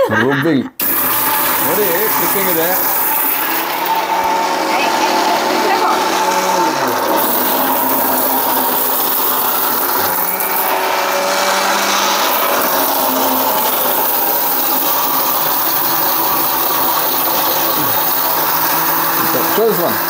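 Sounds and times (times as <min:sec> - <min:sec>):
mixer grinder grinding spices: 0:00.8 - 0:20.0.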